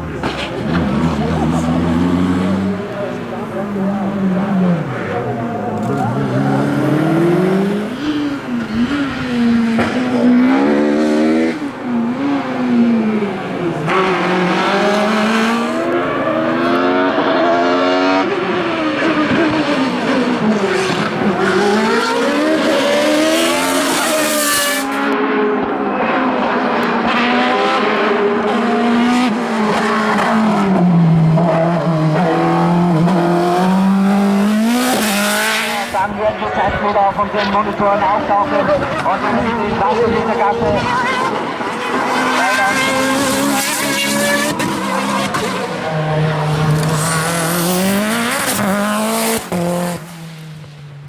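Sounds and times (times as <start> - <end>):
race car engine at full throttle: 0.0 - 51.0.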